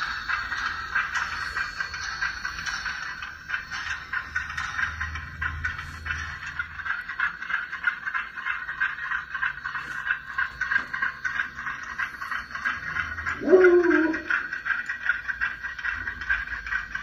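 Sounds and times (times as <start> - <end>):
model train rattling whir: 0.0 - 17.0.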